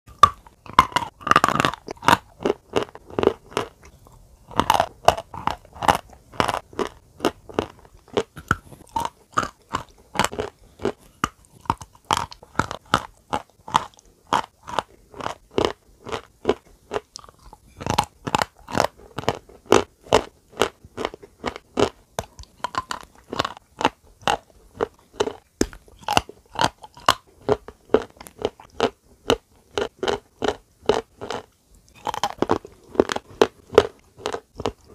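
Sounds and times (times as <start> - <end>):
crunching and chewing brittle food: 0.1 - 34.9.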